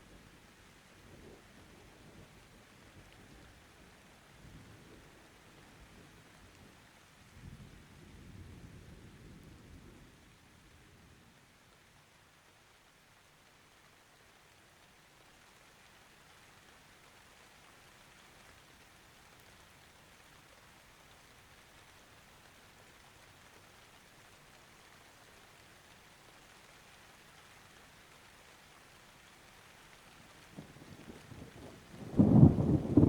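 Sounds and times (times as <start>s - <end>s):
faint rain: 0.0s - 33.0s.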